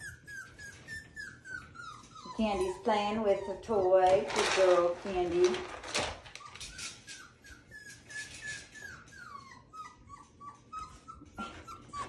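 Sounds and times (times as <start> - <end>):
puppy whimpering: 0.0 - 4.8, 6.2 - 12.0.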